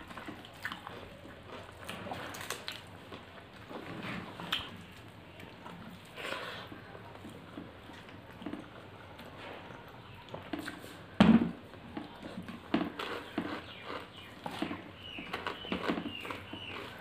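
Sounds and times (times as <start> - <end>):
wet chewing: 0.0 - 11.1, 11.8 - 17.0.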